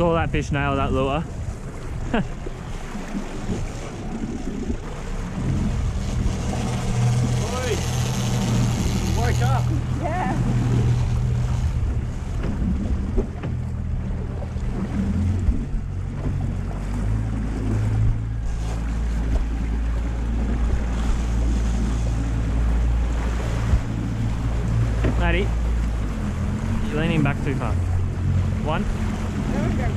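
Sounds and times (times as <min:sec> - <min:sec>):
boat engine running: 0:00.0 - 0:29.9
water rushing past hull: 0:00.0 - 0:29.9
wind buffeting microphone: 0:00.0 - 0:29.9.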